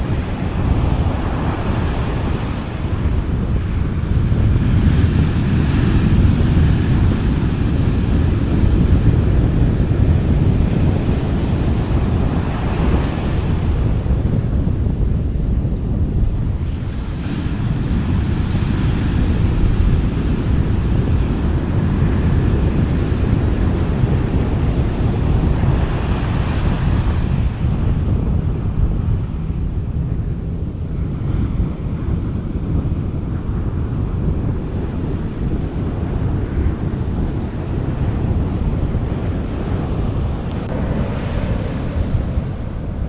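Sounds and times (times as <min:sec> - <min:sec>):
sea waves washing onto beach: 0:00.0 - 0:31.0, 0:31.6 - 0:43.0
wind rumbling on microphone: 0:00.0 - 0:43.0.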